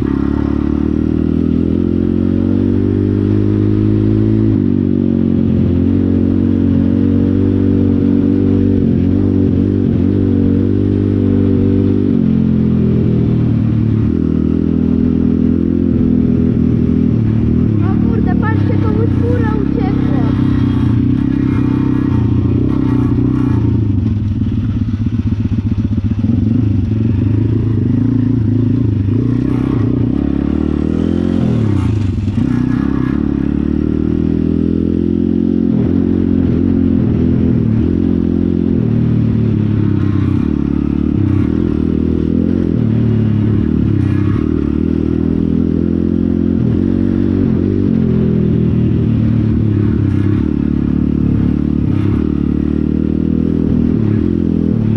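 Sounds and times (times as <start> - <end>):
pit bike engine revving: 0.0 - 54.9.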